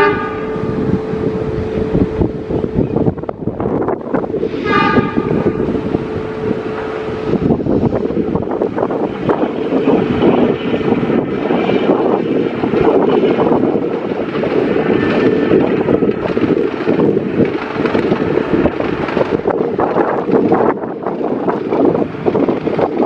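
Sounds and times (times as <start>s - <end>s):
diesel train running past: 0.0s - 23.0s.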